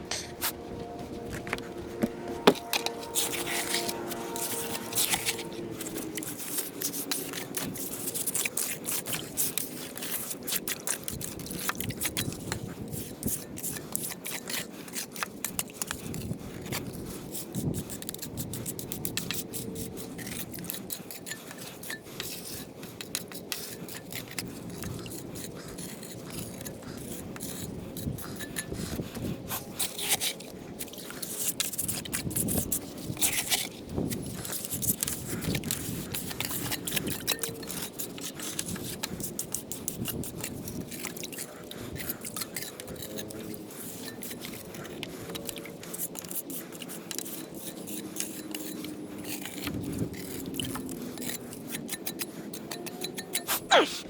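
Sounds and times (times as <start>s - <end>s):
tool scraping wet cement: 1.4s - 52.7s.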